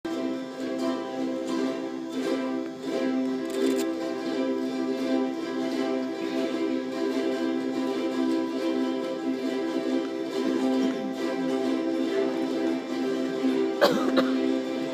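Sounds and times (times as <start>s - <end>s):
choir holding notes: 0.0s - 14.9s
plucked strings strummed: 0.1s - 14.9s.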